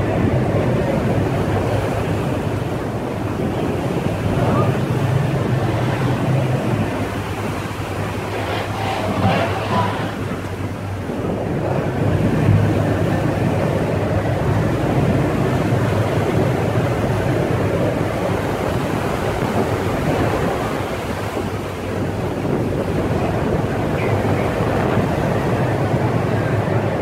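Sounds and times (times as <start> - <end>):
sea waves breaking on steel: 0.0 - 27.0
wind buffeting microphone: 0.0 - 27.0.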